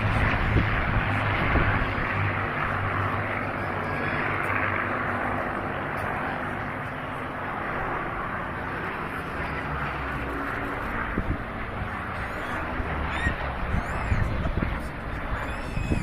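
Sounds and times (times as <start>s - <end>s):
aircraft engine in flight: 0.0s - 16.0s.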